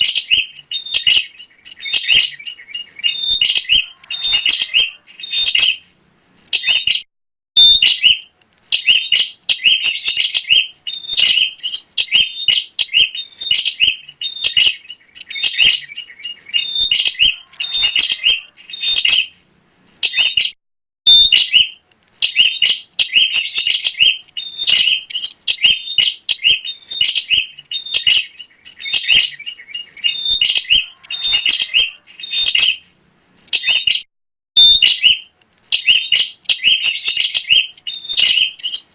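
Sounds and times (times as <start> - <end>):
bird chirping rapidly: 0.0 - 7.0, 7.6 - 38.9.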